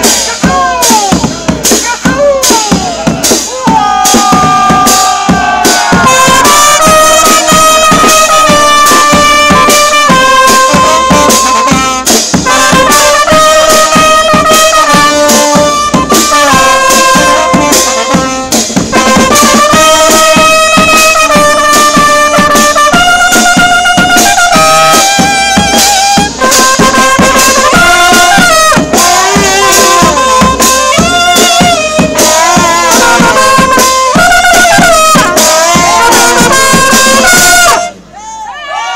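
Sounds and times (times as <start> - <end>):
bass drum with cymbal: 0.0 - 38.0
brass band playing: 0.0 - 38.1.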